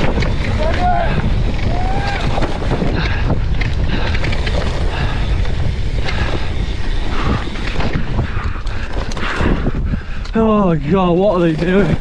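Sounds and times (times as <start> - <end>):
mountain bike rattling: 0.0 - 12.0
wind on microphone: 0.0 - 12.0.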